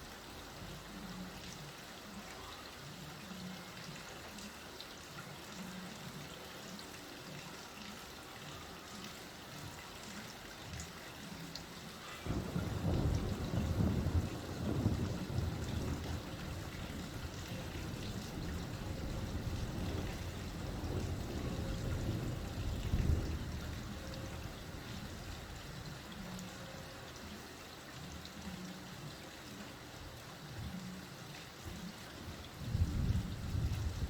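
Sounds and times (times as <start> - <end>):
steady rain: 0.0 - 34.0
water trickling and pouring: 0.0 - 34.0.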